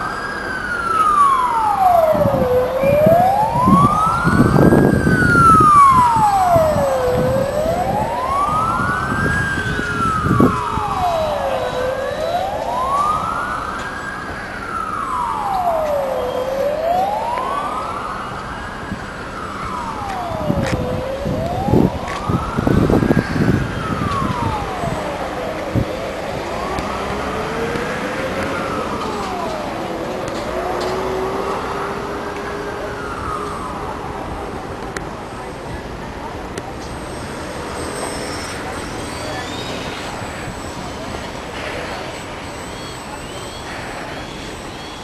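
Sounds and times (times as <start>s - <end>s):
wailing siren: 0.0s - 45.0s.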